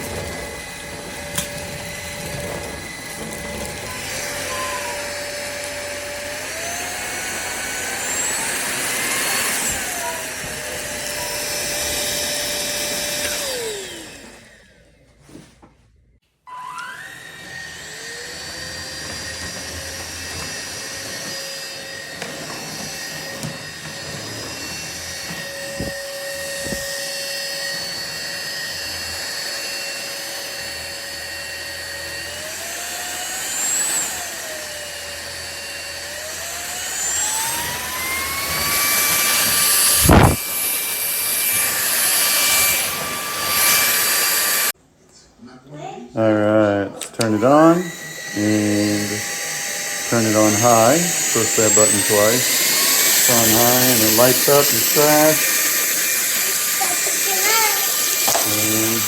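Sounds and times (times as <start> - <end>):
vacuum motor whining: 0.0 - 15.1, 16.5 - 44.8, 47.0 - 59.0.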